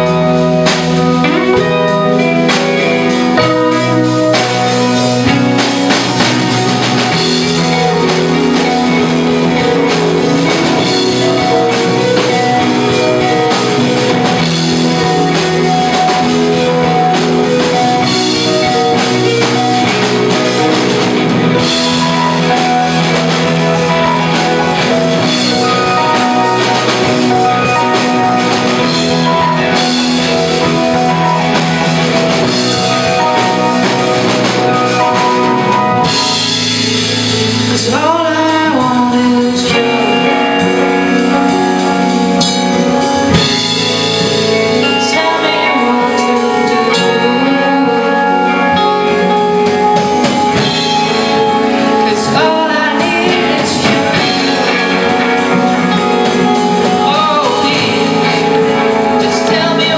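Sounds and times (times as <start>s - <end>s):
drum kit: 0.0s - 59.9s
guitar: 0.0s - 59.9s
person singing: 0.0s - 59.9s.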